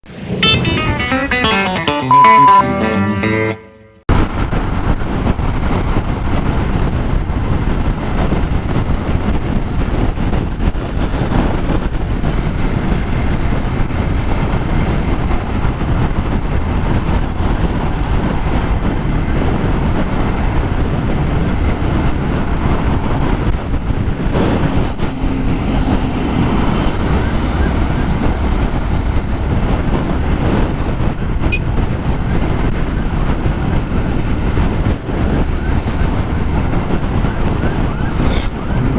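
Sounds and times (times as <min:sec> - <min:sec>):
wind buffeting microphone: 0:04.2 - 0:38.9.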